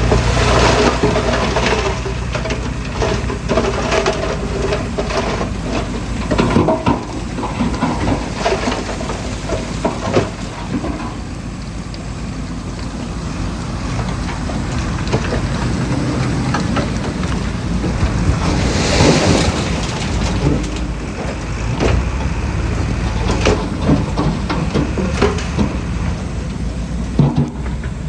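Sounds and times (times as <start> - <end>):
diesel machinery running: 0.0 - 28.0
stone and dirt clattering: 0.0 - 28.0.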